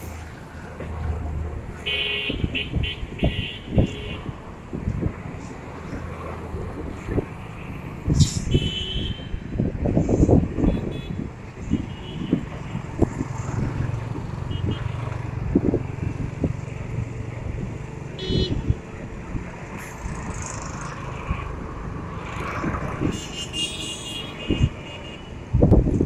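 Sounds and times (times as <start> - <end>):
road traffic hum: 0.0 - 26.0.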